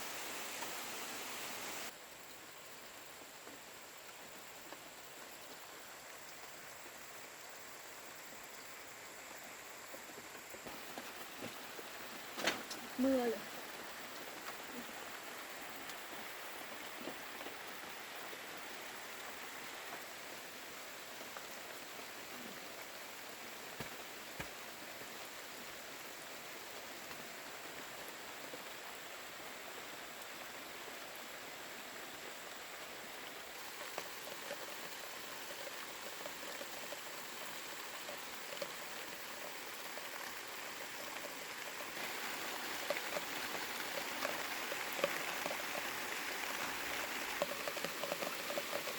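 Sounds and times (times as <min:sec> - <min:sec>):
light taps of rain: 0:00.0 - 0:48.9
steady rain falling: 0:00.0 - 0:48.9.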